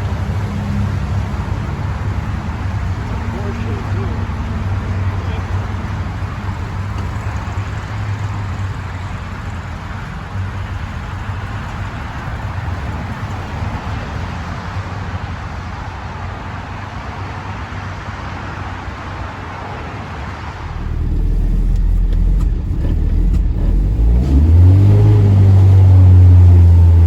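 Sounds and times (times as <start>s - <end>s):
car engine idling: 0.0s - 17.2s, 20.5s - 27.0s.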